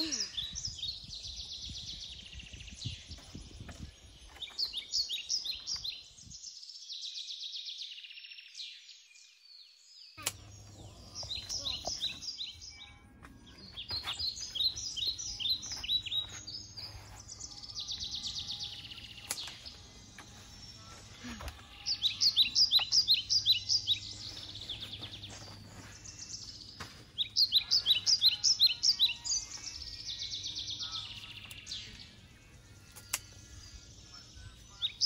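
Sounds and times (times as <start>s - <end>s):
songbird chirping: 0.0s - 35.0s.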